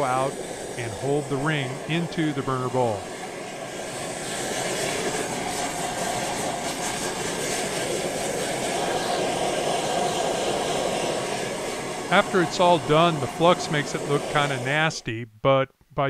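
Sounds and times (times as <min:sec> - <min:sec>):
gas torch flames hissing: 0:00.0 - 0:15.0.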